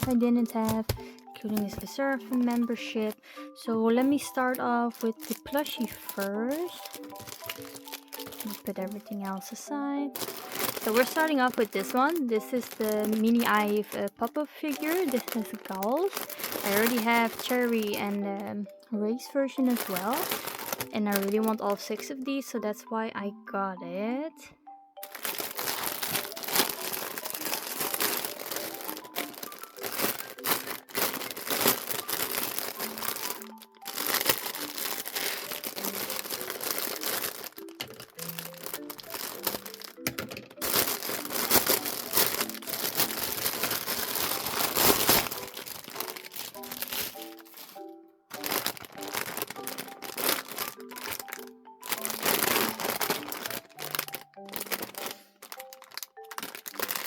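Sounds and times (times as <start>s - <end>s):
packaging crinkling and rustling: 0.0s - 18.5s, 19.5s - 22.2s, 25.0s - 57.0s
soft background music: 0.0s - 57.0s.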